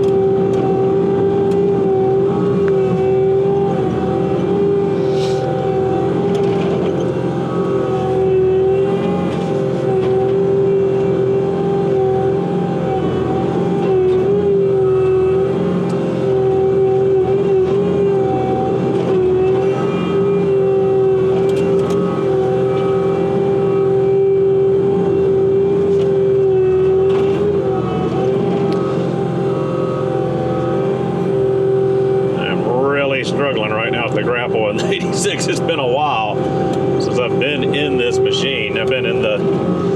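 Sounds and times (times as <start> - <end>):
track loader engine whine: 0.0 - 39.9.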